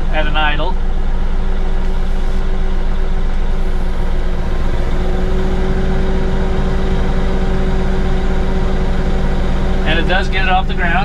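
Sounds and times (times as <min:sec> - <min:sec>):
steady hydraulic whine: 0:00.0 - 0:11.0
tractor diesel engine idling: 0:00.0 - 0:11.0.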